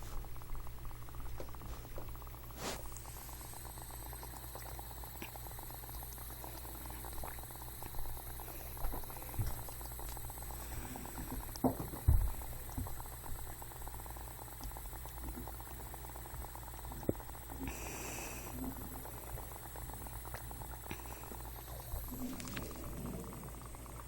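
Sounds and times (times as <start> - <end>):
fast bubbling gurgling: 0.0 - 24.0.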